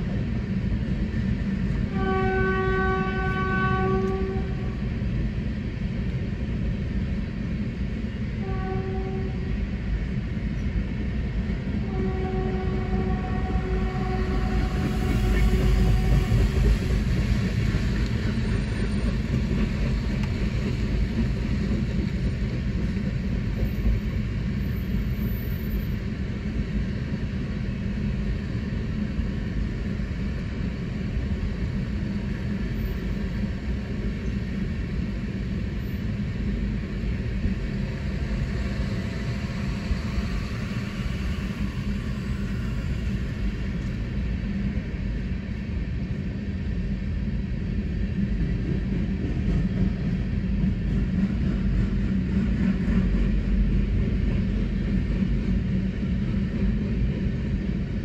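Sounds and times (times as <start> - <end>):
train wheels rolling on rails: 10.1 - 58.0.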